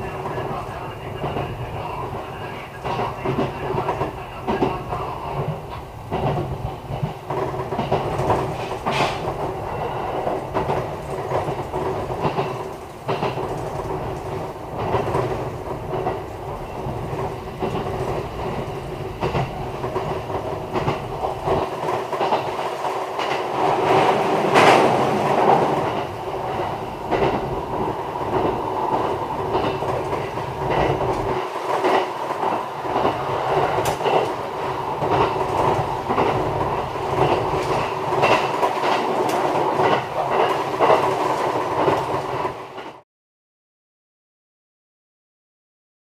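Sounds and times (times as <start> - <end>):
train running noise: 0.0 - 43.0
wheels clicking over rail joints: 5.4 - 43.0.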